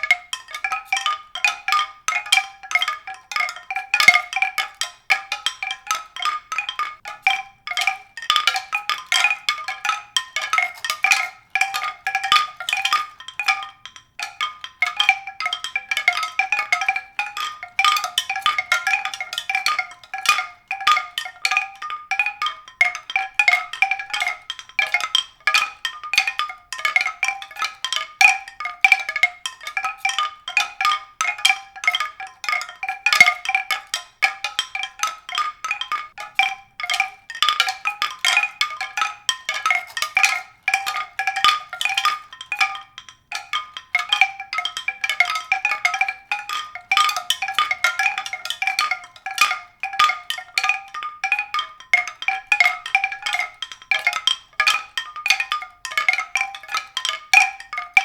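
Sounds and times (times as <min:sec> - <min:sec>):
mallet percussion music: 0:00.0 - 0:58.0.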